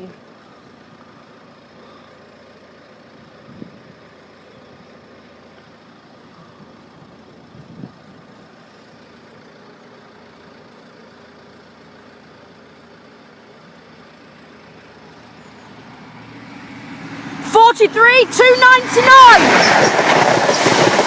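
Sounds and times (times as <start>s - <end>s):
diesel train engine rumble: 0.0s - 21.0s.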